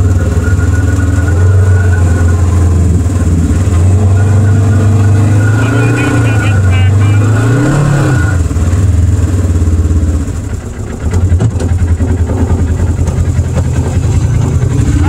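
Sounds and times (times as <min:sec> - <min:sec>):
off-road vehicle engine idling: 0:00.0 - 0:15.0.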